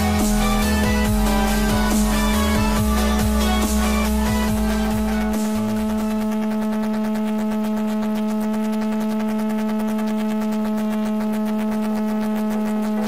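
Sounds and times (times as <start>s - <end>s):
sustained low synth drone: 0.0s - 13.0s.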